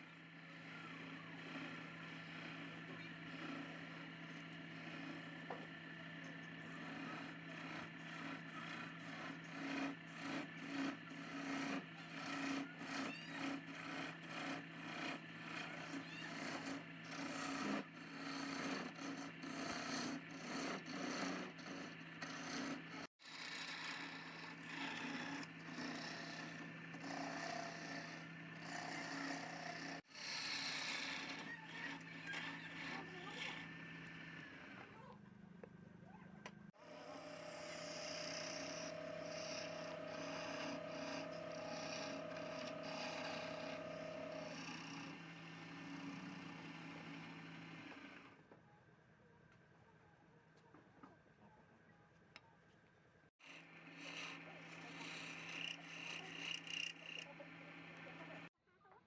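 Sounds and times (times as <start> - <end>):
lathe motor hum: 0.0 - 35.0, 36.4 - 48.4, 53.4 - 58.5
tool scraping spinning wood: 0.0 - 35.1, 36.4 - 48.3, 53.4 - 58.5.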